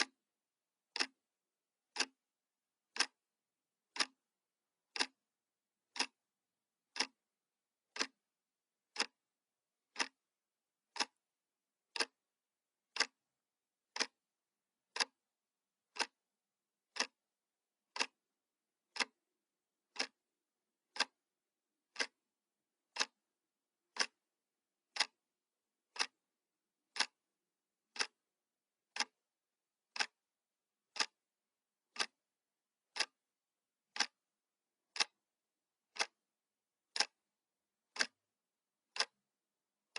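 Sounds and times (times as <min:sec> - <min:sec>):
clock ticking: 0:00.0 - 0:11.2, 0:11.8 - 0:39.9.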